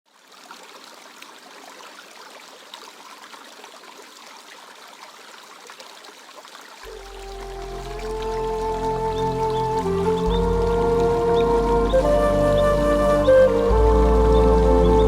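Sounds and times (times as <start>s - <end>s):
stream trickling and babbling: 0.1s - 15.0s.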